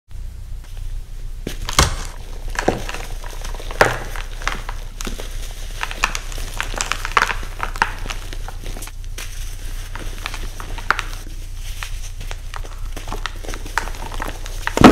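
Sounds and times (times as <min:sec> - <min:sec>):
low steady hum: 0:00.1 - 0:14.9
powder crumbling crackles: 0:01.4 - 0:14.9
baking soda crunching: 0:01.6 - 0:14.9.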